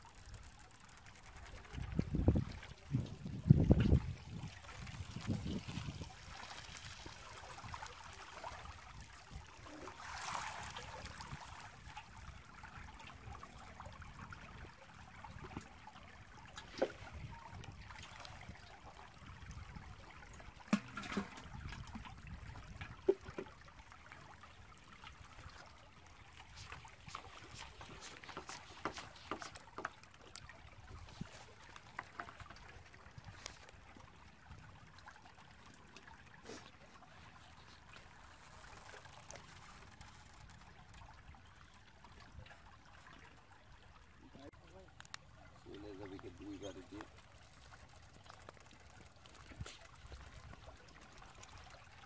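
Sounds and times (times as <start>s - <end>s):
water splashing and trickling: 0.0s - 52.0s.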